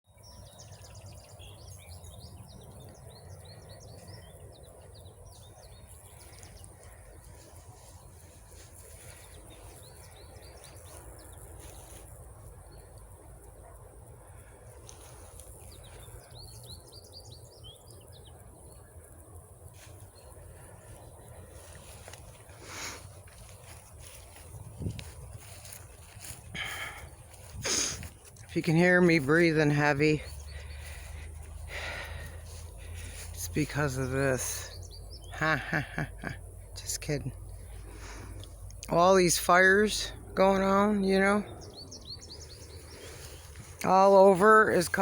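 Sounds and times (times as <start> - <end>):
small birds chirping: 0.1 - 45.0.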